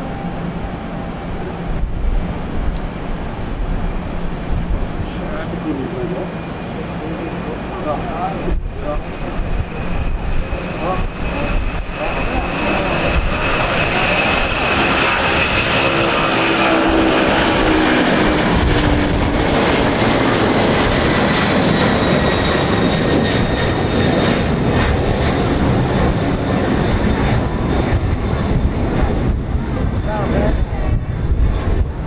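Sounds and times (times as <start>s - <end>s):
jet engines roaring at takeoff: 0.0s - 32.0s.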